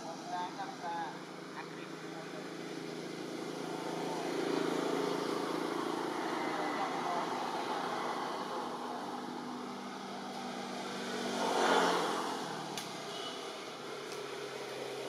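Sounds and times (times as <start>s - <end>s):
motor vehicle passing by: 0.0s - 15.0s.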